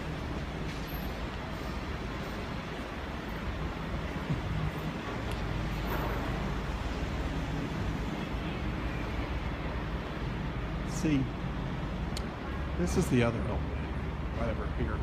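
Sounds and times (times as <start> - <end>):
traffic rumble in parking garage: 0.0 - 15.0.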